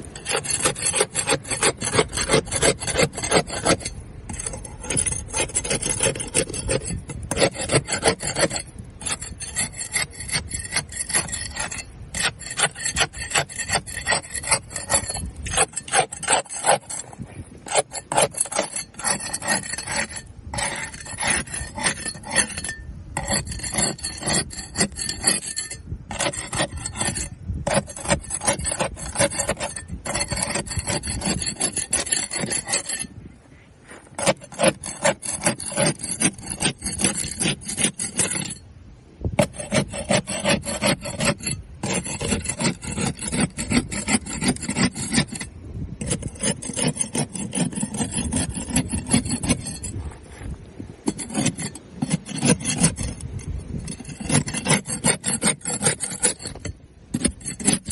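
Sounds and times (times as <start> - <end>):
barnacles scraped off hull: 0.0 - 33.2, 33.8 - 38.7, 39.3 - 57.9.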